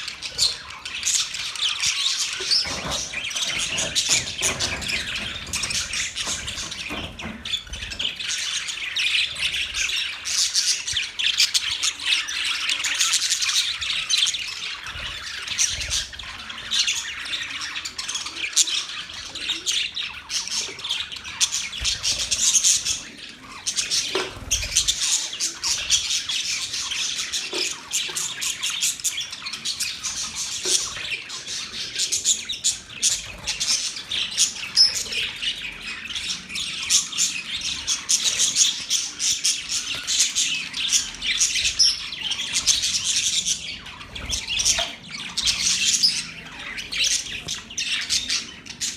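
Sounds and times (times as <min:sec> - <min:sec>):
budgerigars chattering and chirping: 0:00.0 - 0:48.9.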